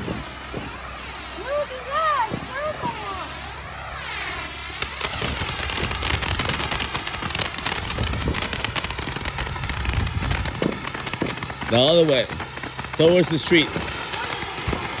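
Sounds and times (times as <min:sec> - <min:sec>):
firework crackling: 0:00.0 - 0:15.0
firework hissing: 0:00.0 - 0:15.0.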